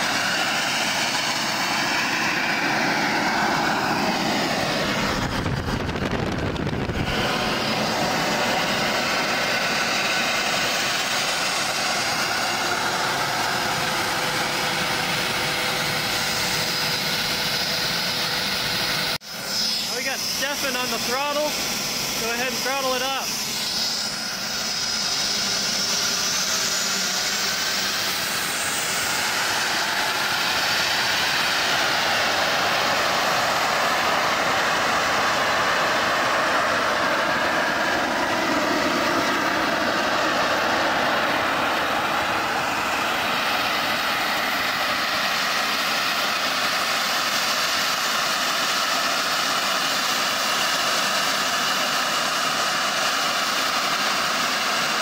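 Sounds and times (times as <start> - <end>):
jet engine roaring with high whine: 0.0 - 55.0.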